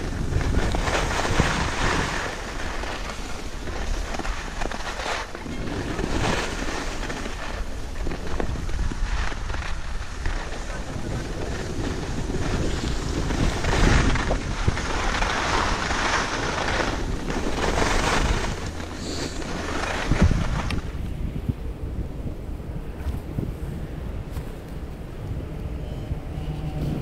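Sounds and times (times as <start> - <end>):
skis scraping on snow: 0.0 - 21.5, 22.8 - 27.0
wind buffeting microphone: 0.0 - 27.0.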